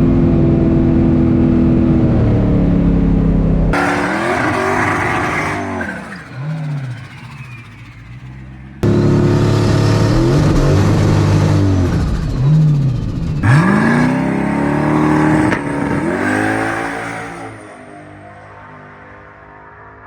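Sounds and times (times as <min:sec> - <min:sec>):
drag car engine revving: 0:00.0 - 0:20.0.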